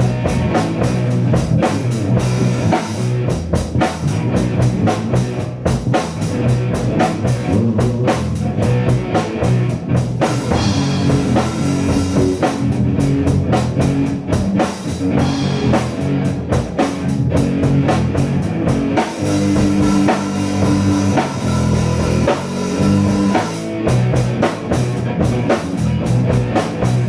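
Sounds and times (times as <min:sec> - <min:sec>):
drum kit steady beat: 0:00.0 - 0:27.0
guitars: 0:00.0 - 0:27.0
rock band playing: 0:00.0 - 0:27.0.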